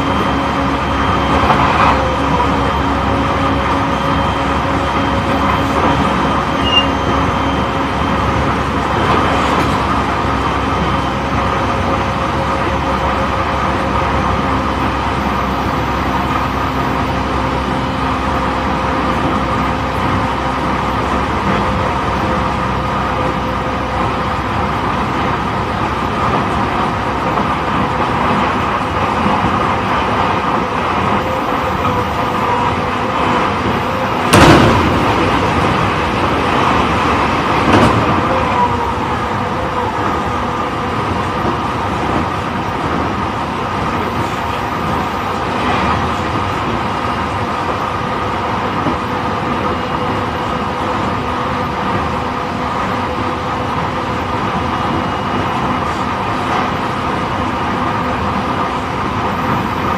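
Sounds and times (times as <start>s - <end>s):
wheel-on-rail rumble: 0.0s - 59.9s.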